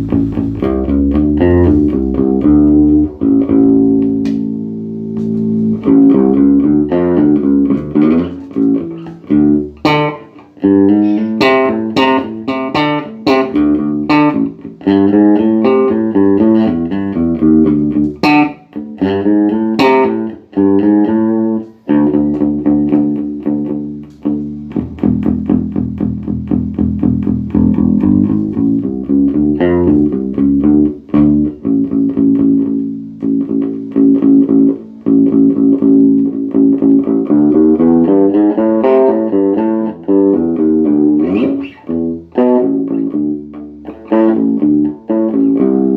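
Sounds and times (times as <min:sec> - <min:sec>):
bass guitar plucked notes: 0:00.0 - 0:45.9.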